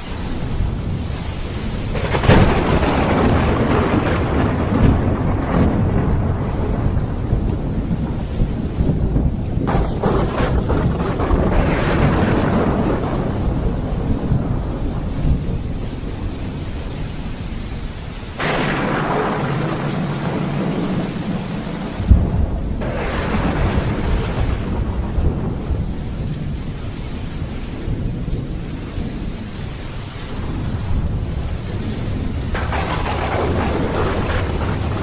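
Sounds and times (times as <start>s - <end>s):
crackling thunderclap: 0.0s - 35.0s
heavy rain hissing: 0.0s - 35.0s
thunder rumbling: 0.0s - 35.0s.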